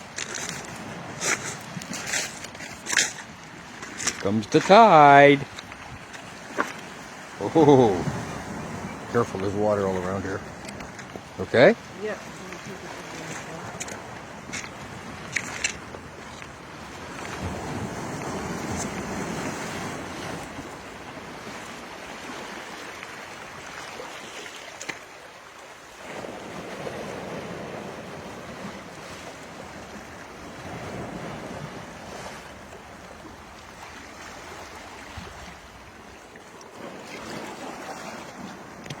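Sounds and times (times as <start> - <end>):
surf washing over rocky shore: 0.0 - 39.0.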